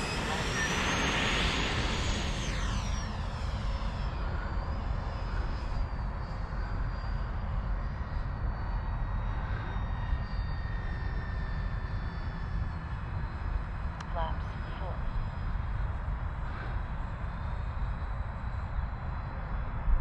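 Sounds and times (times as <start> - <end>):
model jet high whine: 0.0 - 20.0.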